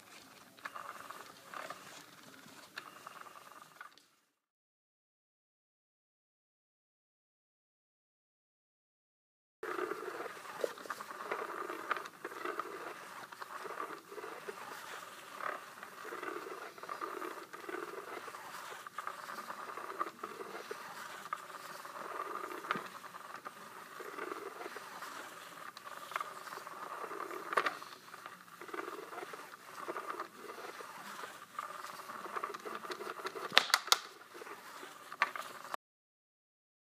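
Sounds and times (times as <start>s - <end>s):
small motor whirring: 0.0s - 3.9s, 9.6s - 35.8s.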